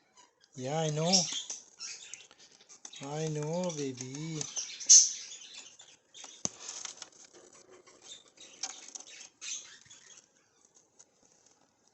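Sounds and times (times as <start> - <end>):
birds scratching: 0.6 - 11.9.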